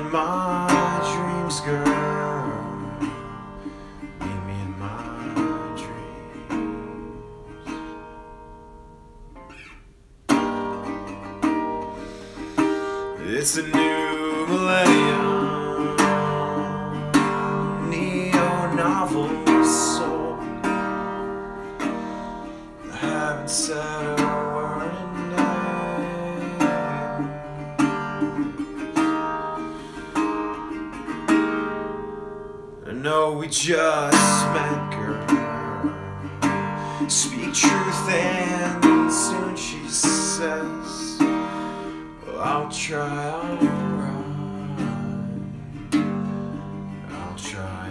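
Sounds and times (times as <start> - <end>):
strummed acoustic guitar: 0.0 - 47.9.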